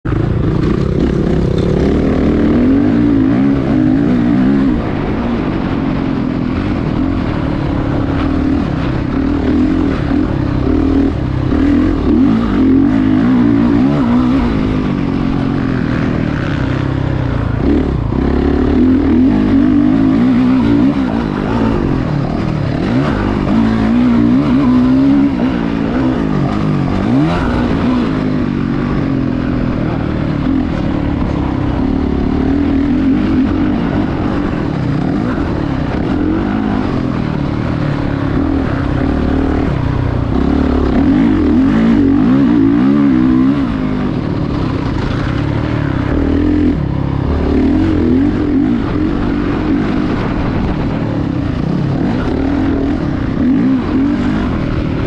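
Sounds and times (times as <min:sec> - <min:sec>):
dirt bike engine revving: 0:00.1 - 0:55.0.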